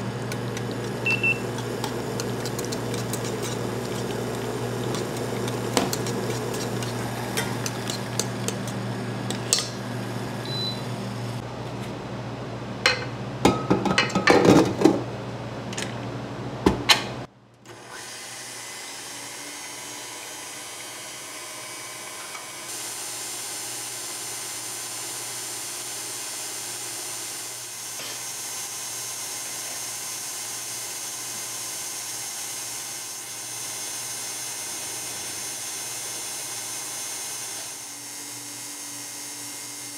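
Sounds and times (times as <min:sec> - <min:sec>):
electric mixer motor running: 0:00.0 - 0:11.4, 0:17.7 - 0:39.9.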